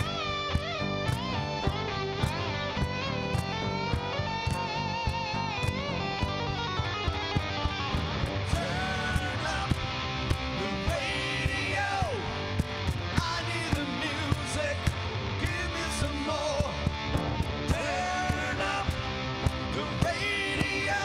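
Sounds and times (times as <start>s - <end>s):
drum beat: 0.0s - 20.9s
bass guitar: 0.0s - 21.0s
lead electric guitar: 0.0s - 21.0s.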